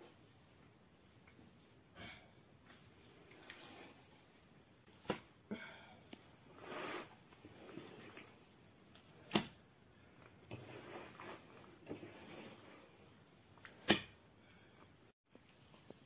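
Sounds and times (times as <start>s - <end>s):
hands squishing dough: 2.6s - 16.0s.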